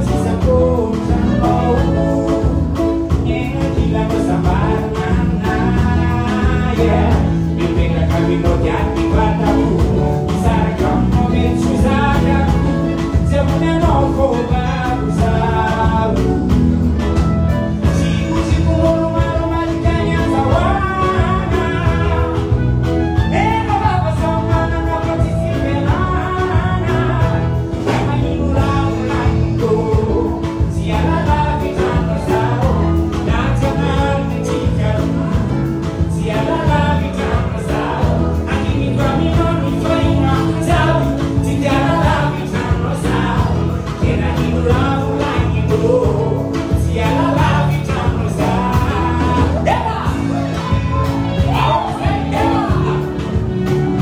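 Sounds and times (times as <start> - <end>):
live band playing dance song: 0.0 - 54.0
man singing into microphone: 0.0 - 54.0.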